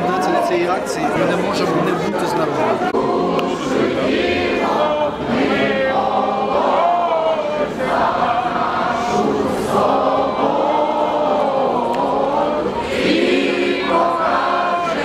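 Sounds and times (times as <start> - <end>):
large crowd singing in unison: 0.0 - 15.0.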